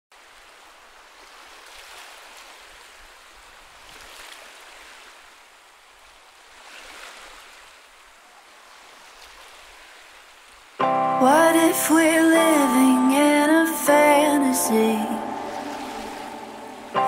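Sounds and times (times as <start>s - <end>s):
ocean waves washing on shore: 0.2s - 17.0s.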